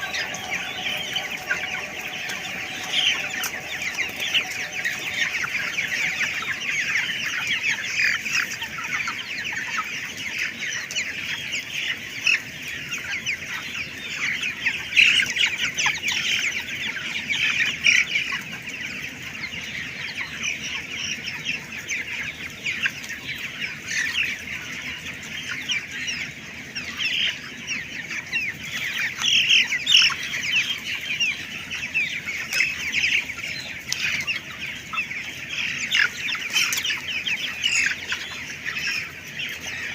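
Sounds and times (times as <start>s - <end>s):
chickens peeping and chirping: 0.0s - 39.9s.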